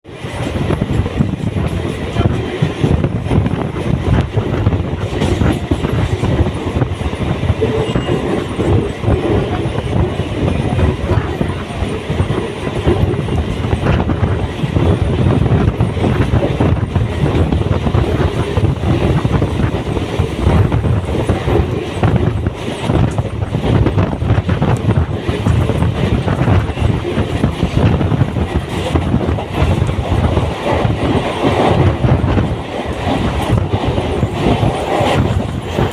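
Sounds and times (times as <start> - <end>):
train rumbling on rails: 0.0 - 35.9.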